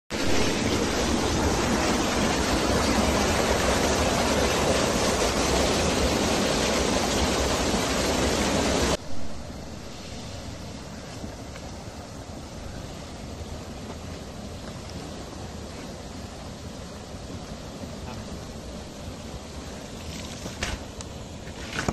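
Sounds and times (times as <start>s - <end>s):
water rushing through a sluice: 0.1s - 9.0s, 9.8s - 21.9s.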